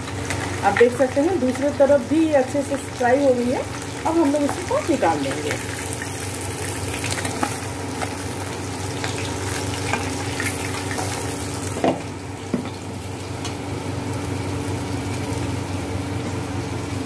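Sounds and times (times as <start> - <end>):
oil sizzling in a wok: 0.0 - 17.0.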